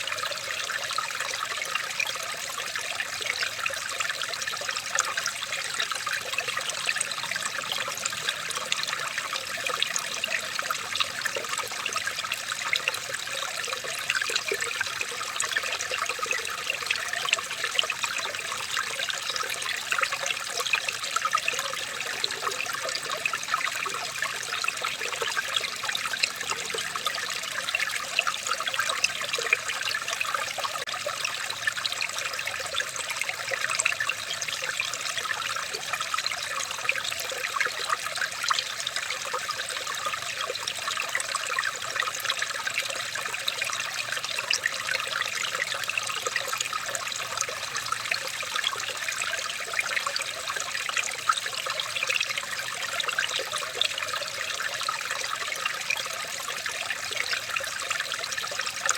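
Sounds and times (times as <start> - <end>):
water trickling and babbling: 0.0 - 58.9.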